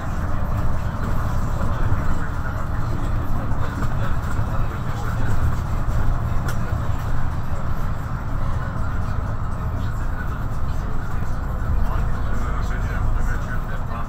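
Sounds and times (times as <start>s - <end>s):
bus engine drone: 0.0s - 14.0s
road and tyre noise: 0.0s - 14.0s.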